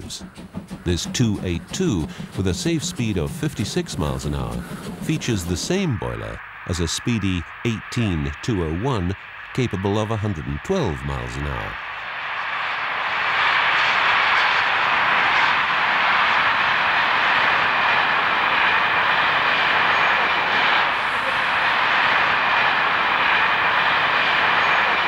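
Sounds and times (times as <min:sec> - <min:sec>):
steam train rushing at speed: 0:00.0 - 0:25.0.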